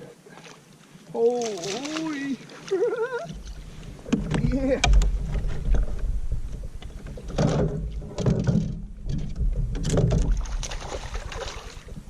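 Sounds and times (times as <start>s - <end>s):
kayak handling thumps and rustles: 1.2s - 12.0s.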